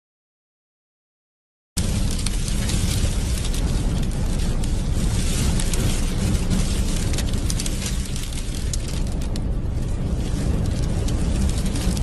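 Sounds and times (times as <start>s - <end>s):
sandstorm wind buffeting: 1.8s - 12.0s.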